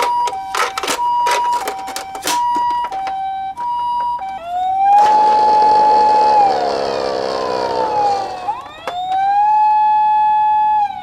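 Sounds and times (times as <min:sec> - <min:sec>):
toy two-tone siren: 0:00.0 - 0:11.0
toy wail siren: 0:00.0 - 0:11.0.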